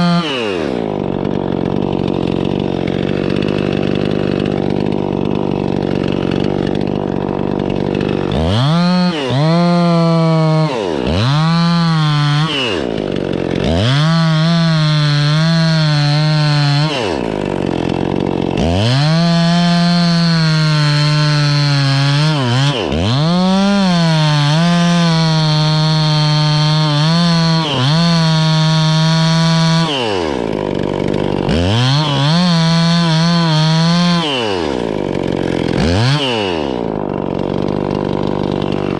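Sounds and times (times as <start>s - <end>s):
chainsaw revving and idling: 0.0s - 38.9s.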